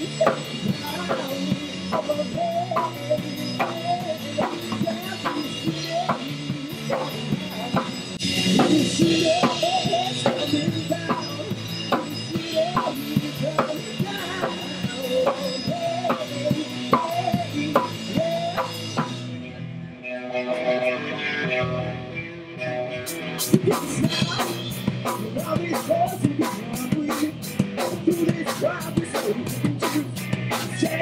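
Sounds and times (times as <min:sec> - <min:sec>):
live rock band: 0:00.0 - 0:31.0.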